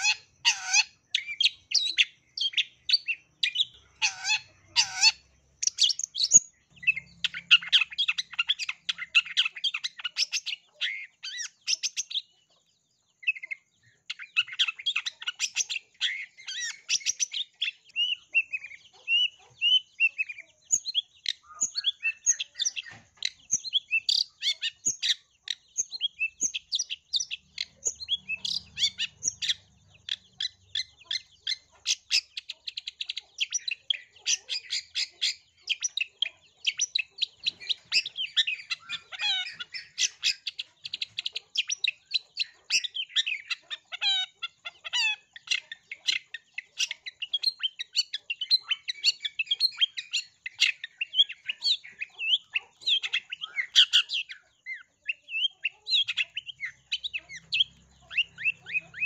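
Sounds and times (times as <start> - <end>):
bird singing chattering trills: 0.0 - 59.0.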